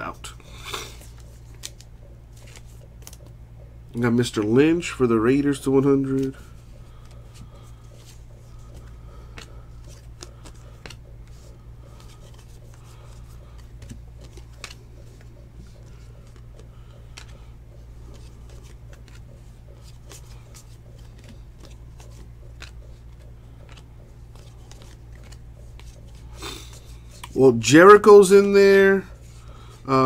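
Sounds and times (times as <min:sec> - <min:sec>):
steady low hum: 0:00.0 - 0:30.0
trading cards flicking and sliding: 0:00.5 - 0:03.4, 0:05.3 - 0:27.4.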